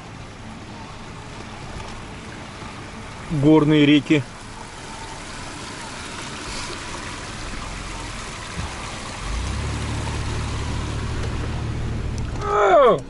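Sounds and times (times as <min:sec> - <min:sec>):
car engine hum: 0:00.0 - 0:13.0
rushing river water: 0:00.0 - 0:13.0.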